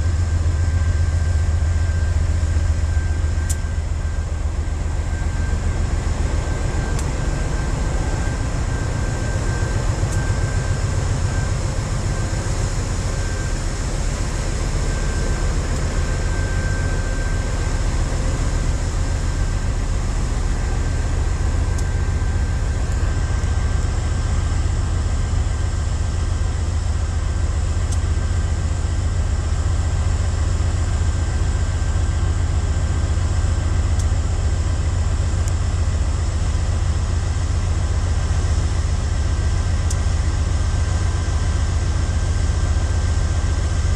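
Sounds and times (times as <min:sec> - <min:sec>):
locomotive diesel engine rumbling: 0:00.0 - 0:43.9.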